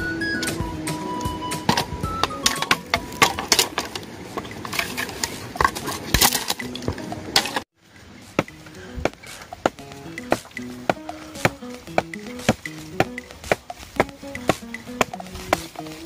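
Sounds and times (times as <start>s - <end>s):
light music: 0.0s - 3.9s, 6.2s - 16.0s.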